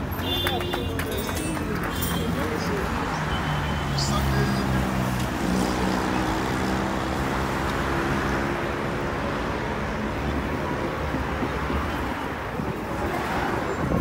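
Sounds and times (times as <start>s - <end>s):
heavy road traffic: 0.0s - 14.0s.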